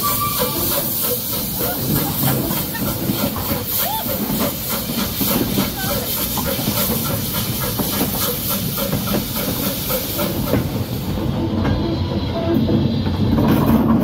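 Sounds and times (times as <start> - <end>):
steam hissing: 0.0 - 13.3
steam locomotive chugging on rails: 0.0 - 14.0.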